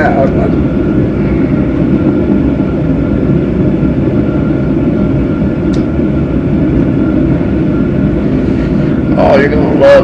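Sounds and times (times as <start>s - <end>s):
low rumbling noise: 0.0s - 10.0s.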